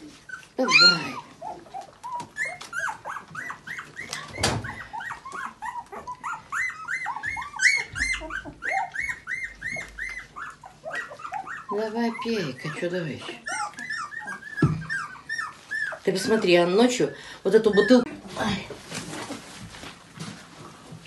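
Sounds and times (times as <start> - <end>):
puppy whimpering and squealing: 0.0 - 16.8, 17.5 - 18.1.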